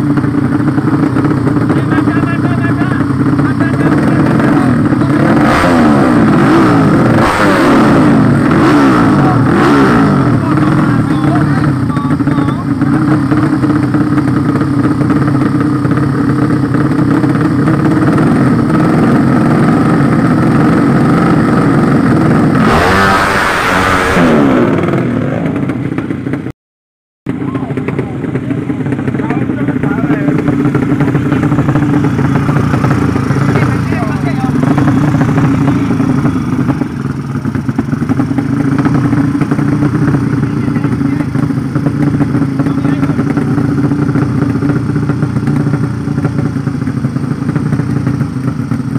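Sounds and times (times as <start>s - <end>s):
motorcycle engine running: 0.0s - 26.5s, 27.3s - 48.9s.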